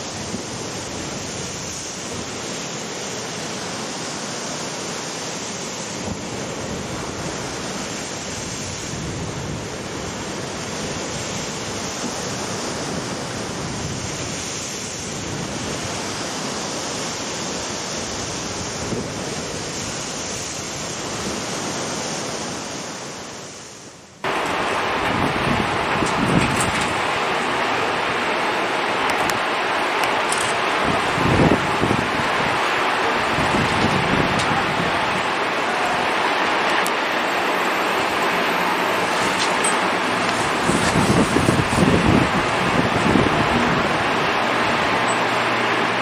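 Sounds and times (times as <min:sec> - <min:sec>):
waves surging against sea wall: 0:00.0 - 0:46.0
wind: 0:00.0 - 0:46.0.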